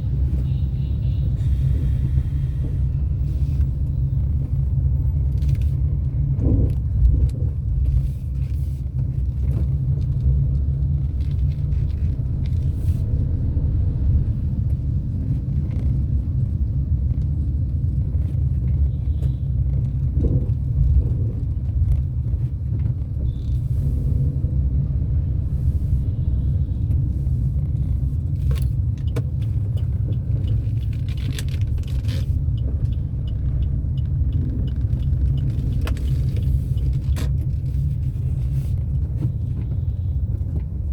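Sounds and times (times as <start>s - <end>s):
car driving on wet road: 1.5s - 40.9s.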